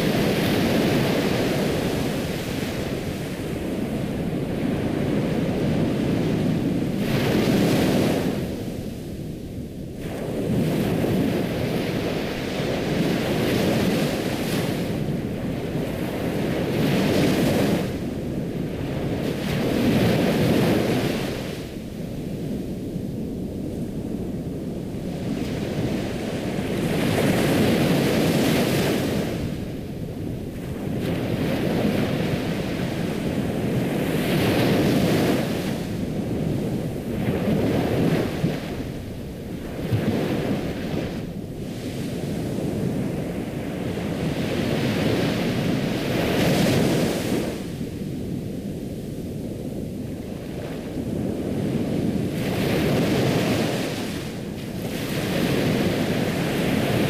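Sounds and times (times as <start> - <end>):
ocean surf washing ashore: 0.0 - 57.0.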